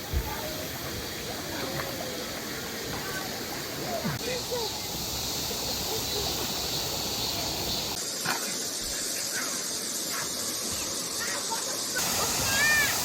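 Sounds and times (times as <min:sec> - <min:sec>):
distant voices of people playing: 0:00.0 - 0:13.0
stream rushing: 0:00.0 - 0:13.0.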